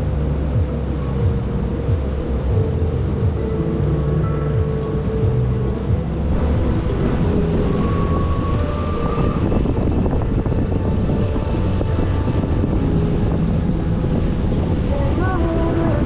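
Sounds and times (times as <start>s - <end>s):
jet ski engine running: 0.0s - 16.0s
wind buffeting microphone: 0.0s - 16.0s.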